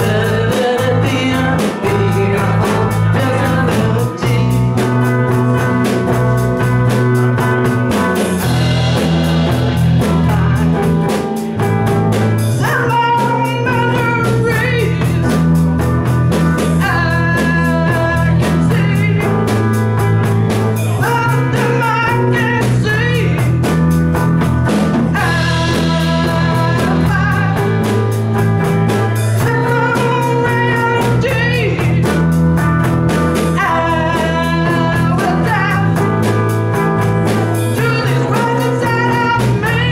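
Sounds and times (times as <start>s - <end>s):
person singing: 0.0s - 11.8s, 12.4s - 23.8s, 25.1s - 32.4s, 33.2s - 37.0s, 37.6s - 39.9s
live rock band playing: 0.0s - 39.9s.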